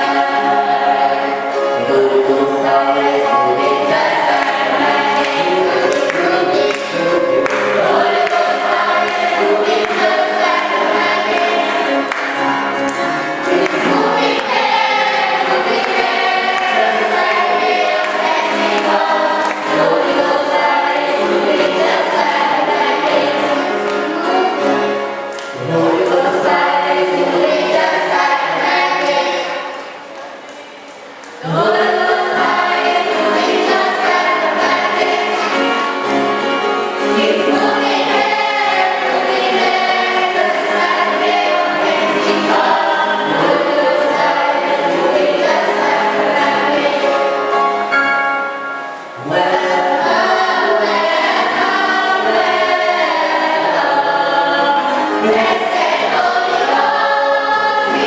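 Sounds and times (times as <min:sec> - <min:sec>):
choir singing: 0:00.0 - 0:30.5, 0:31.2 - 0:58.0.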